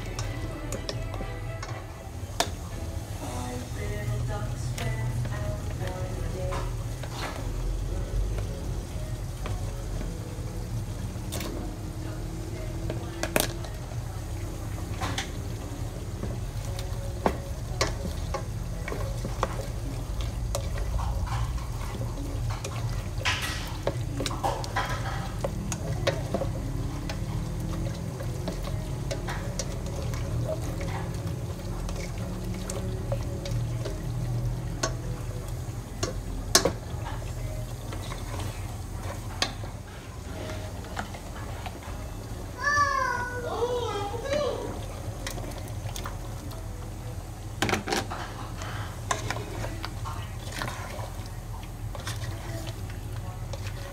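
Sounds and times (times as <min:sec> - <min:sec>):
spatula stirring food in pot: 0:00.0 - 0:53.9.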